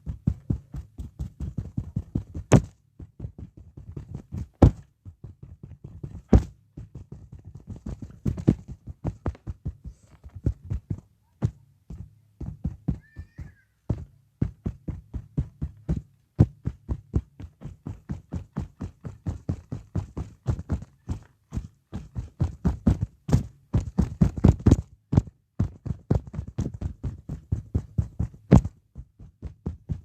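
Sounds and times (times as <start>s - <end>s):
fast deep drum thumps: 0.0s - 30.0s.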